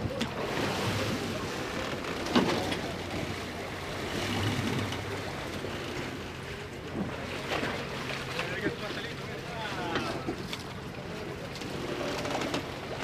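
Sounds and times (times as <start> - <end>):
boat engine running: 0.0 - 13.0
sea wash: 0.0 - 13.0.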